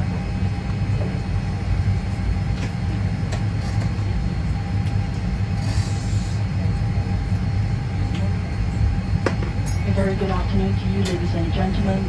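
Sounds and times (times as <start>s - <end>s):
airliner cabin drone: 0.0s - 12.0s
faint steady whine: 0.0s - 12.0s.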